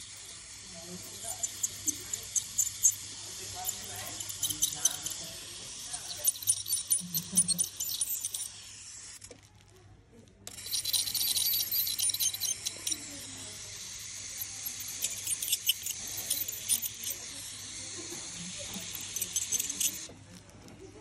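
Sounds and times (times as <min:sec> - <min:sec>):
ultrasonic dental scaler hiss: 0:00.0 - 0:09.4, 0:10.5 - 0:20.1
metallic clicking on teeth: 0:01.0 - 0:09.4, 0:10.5 - 0:13.6, 0:14.2 - 0:17.4, 0:18.0 - 0:20.1.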